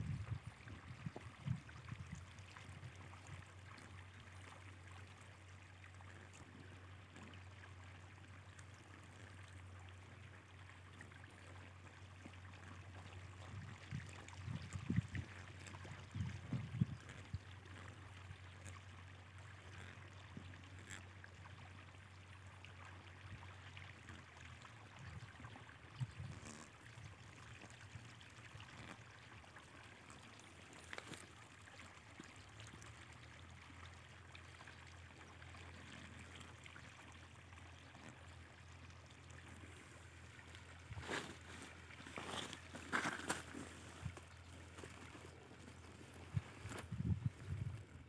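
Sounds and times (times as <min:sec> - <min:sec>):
faint outdoor hiss: 0:00.0 - 0:48.0.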